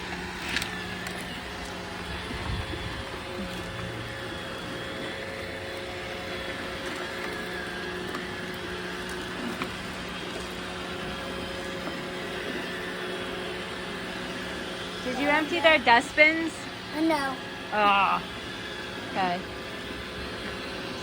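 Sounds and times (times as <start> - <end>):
robot vacuum running: 0.0 - 21.0.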